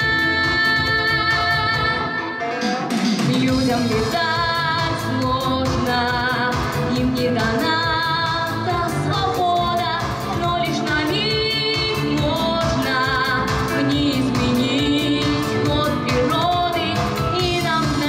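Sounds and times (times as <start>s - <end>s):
girl singing pop song: 0.0s - 2.6s, 3.2s - 18.0s
instrumental accompaniment: 0.0s - 18.0s.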